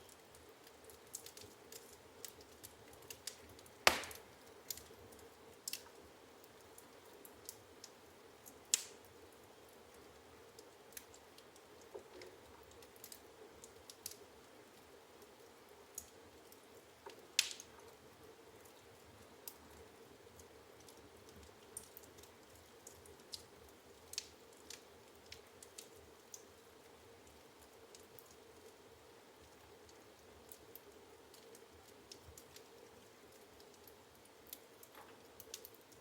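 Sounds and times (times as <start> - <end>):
faint steady hum: 0.0 - 36.0
firewood crackling and popping: 0.0 - 36.0.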